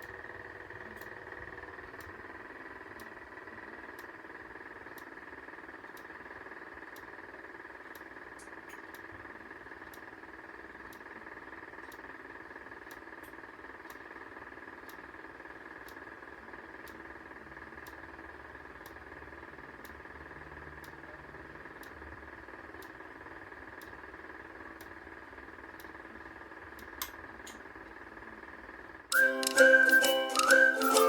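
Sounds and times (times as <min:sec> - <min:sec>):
faint strobe ticks: 0:00.0 - 0:28.4.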